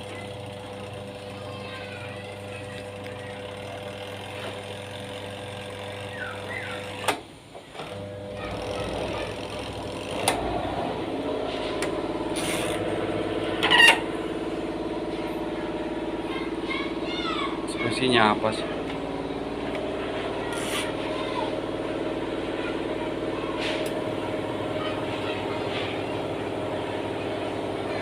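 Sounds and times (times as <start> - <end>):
washing machine motor humming: 0.0 - 28.0.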